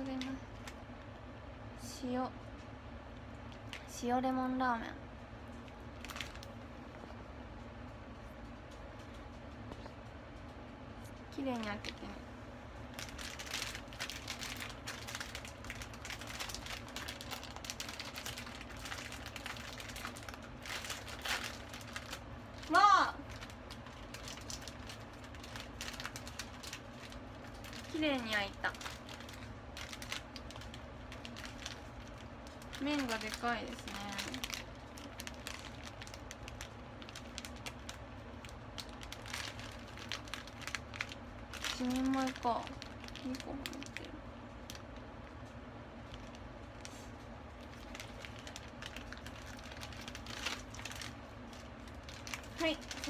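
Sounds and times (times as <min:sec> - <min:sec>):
plastic packet crinkling: 0:00.0 - 0:01.0, 0:03.3 - 0:04.1, 0:05.5 - 0:07.0, 0:12.8 - 0:53.0.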